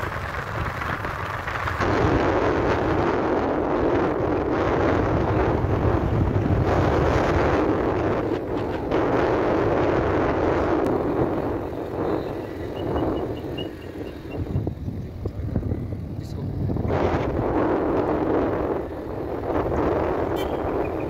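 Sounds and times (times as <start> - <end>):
vehicle rumble on road: 0.0 - 21.0
wind buffeting microphone: 0.0 - 21.0.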